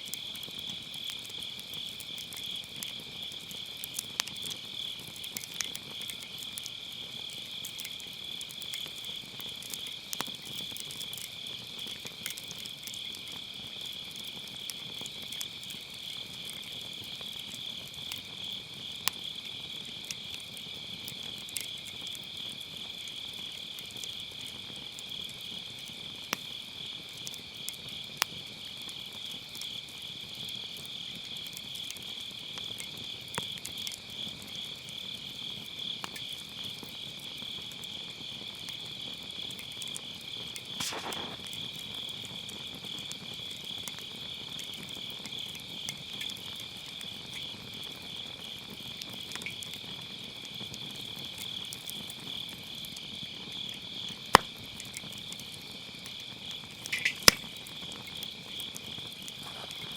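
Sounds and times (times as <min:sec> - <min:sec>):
insects trilling: 0:00.0 - 0:59.9
wood fire crackling: 0:00.0 - 0:59.9.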